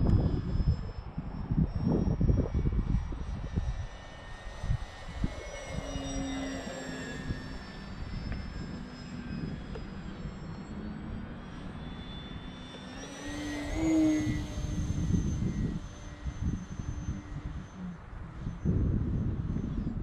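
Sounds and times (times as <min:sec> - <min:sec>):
model plane motor whine: 0:00.0 - 0:20.0
wind rumbling on microphone: 0:00.0 - 0:20.0.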